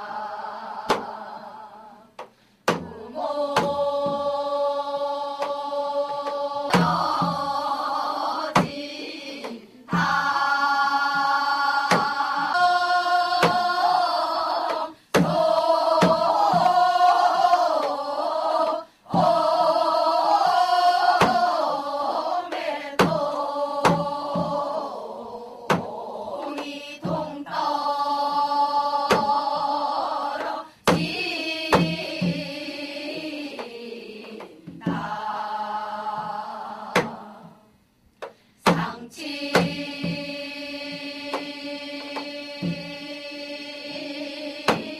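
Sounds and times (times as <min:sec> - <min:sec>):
group singing folk song in unison: 0:00.0 - 0:44.9
hourglass drum strokes: 0:02.1 - 0:37.7, 0:38.6 - 0:44.9.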